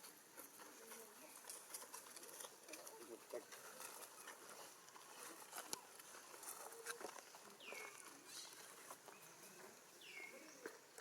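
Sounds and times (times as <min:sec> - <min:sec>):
soft clicks and rustles: 0:00.0 - 0:09.8.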